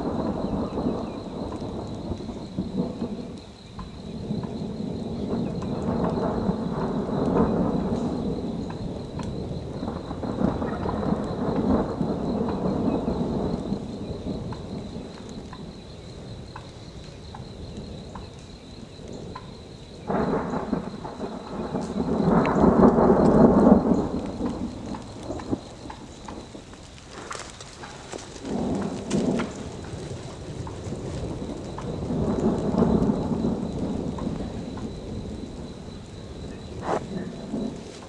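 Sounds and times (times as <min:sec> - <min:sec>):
steady rain: 0:00.0 - 0:38.0
thunder rumbling: 0:00.0 - 0:38.0.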